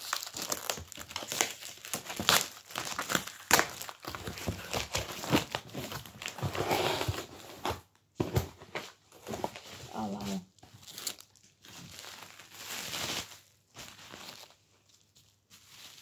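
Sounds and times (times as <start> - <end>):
cardboard crinkling and tearing: 0.0 - 16.0.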